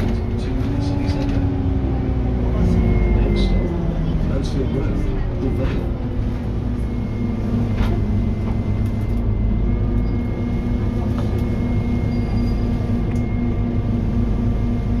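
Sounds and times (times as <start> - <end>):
bus engine and road drone: 0.0 - 15.0
high whine: 0.0 - 15.0.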